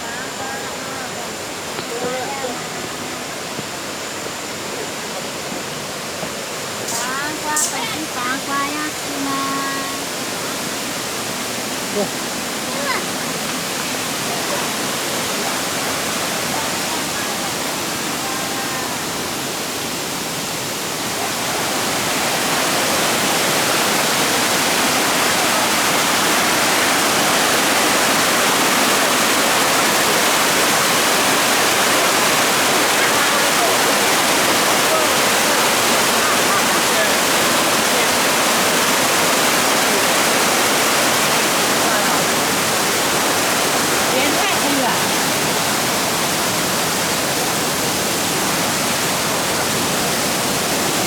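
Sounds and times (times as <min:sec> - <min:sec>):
water rushing over rocks: 0:00.0 - 0:51.0.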